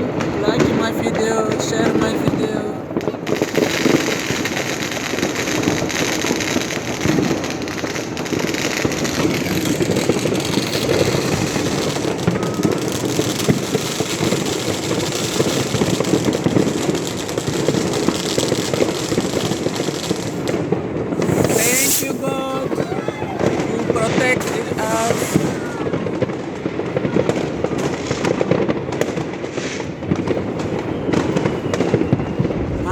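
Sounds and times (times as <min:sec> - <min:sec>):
fireworks crackling: 0:00.0 - 0:32.9.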